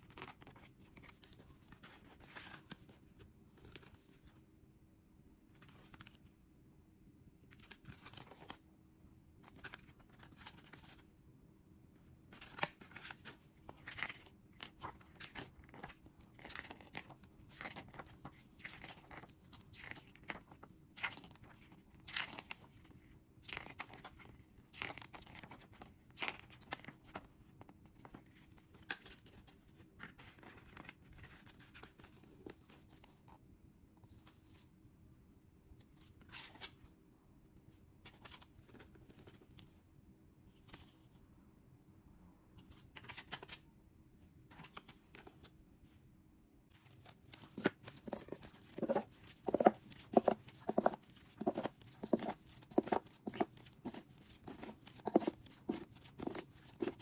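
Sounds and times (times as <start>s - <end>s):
paper rustling and pages turning: 0.0s - 4.4s, 5.5s - 6.3s, 7.5s - 8.6s, 9.4s - 11.1s, 12.3s - 33.4s, 34.0s - 34.7s, 35.8s - 36.9s, 38.0s - 39.8s, 40.5s - 41.2s, 42.6s - 43.6s, 44.5s - 45.6s, 46.7s - 57.0s.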